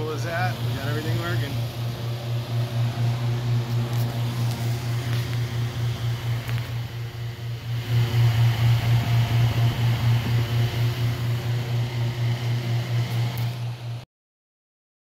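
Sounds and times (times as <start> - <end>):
tanning booth lamps humming: 0.0 - 14.0.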